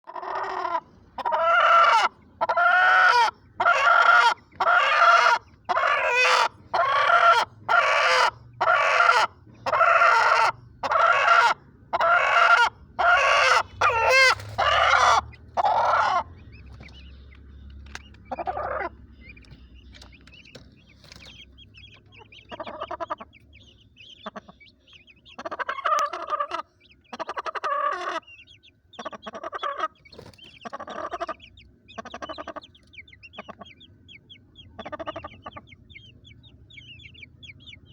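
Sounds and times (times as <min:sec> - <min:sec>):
chicken calling: 0:00.0 - 0:37.9.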